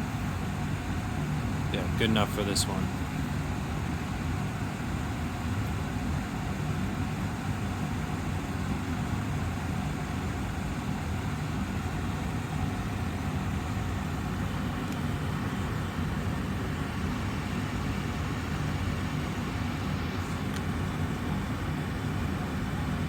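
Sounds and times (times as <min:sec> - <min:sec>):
air purifier fan running: 0:00.0 - 0:23.0.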